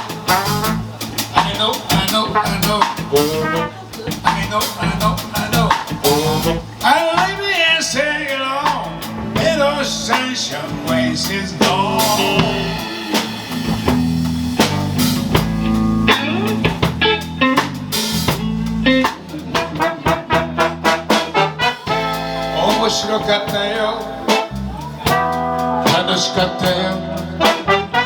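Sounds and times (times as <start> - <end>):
drum kit strikes: 0.0 - 7.5, 8.7 - 28.0
jazz band playing: 0.0 - 28.0.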